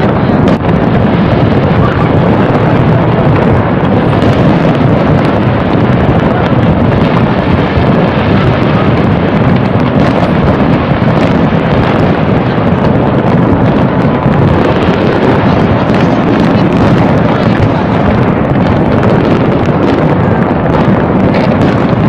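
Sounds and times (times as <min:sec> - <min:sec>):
fireworks bangs and crackle: 0:00.0 - 0:22.0.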